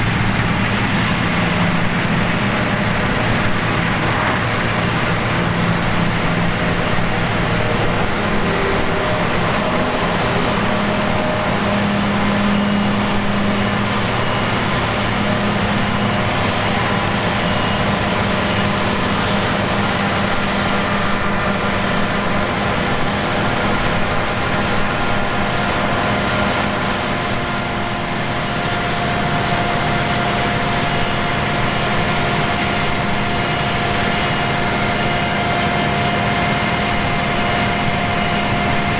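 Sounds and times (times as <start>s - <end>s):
diesel engine hum: 0.0s - 38.9s.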